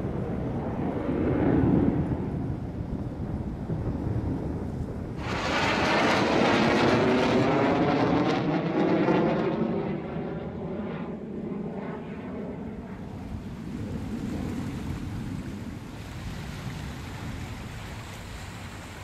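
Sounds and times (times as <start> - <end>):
fighter jet passing: 0.0 - 19.0.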